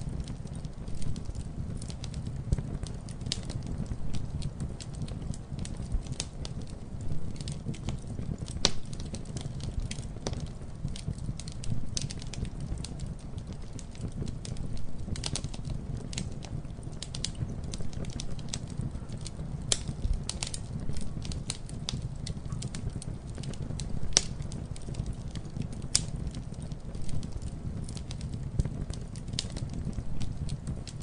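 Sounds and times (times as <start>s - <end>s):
campfire crackling: 0.0s - 31.0s
low rumble of flames: 0.0s - 31.0s.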